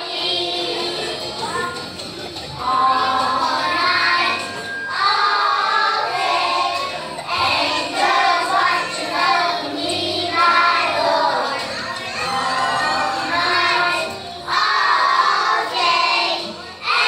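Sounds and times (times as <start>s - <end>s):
children singing in chorus: 0.0s - 1.4s, 2.5s - 17.0s.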